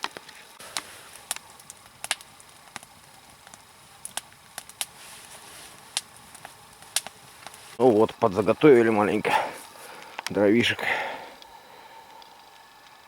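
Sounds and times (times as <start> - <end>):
campfire crackling and popping: 0.0 - 13.0
faint hiss: 0.0 - 13.0.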